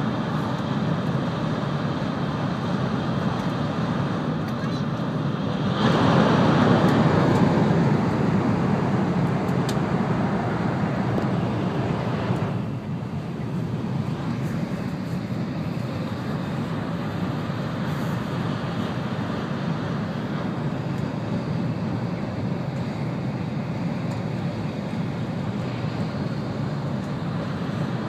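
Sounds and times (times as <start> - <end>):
high-speed train interior rumble: 0.0 - 28.0.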